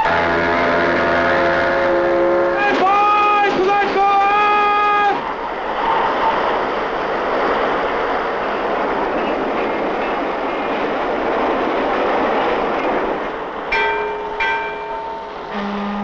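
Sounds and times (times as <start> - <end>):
ship deck machinery rumbling: 0.0 - 16.0.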